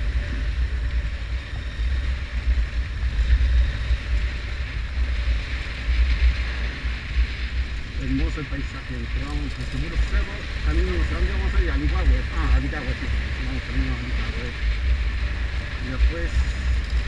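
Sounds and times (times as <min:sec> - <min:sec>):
hiss of tyres and wind: 0:00.0 - 0:17.0
wind buffeting microphone: 0:00.0 - 0:17.0.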